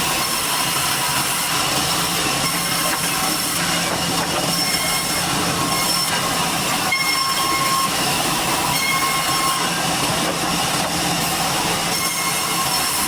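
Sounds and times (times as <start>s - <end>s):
sawmill saw cutting log: 0.0s - 13.0s.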